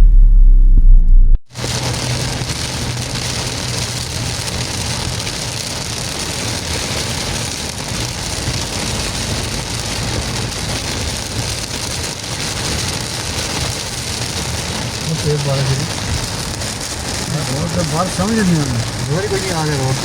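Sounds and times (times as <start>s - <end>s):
car engine and road rumble: 0.0s - 20.0s
heavy rain hissing on car: 1.5s - 20.0s.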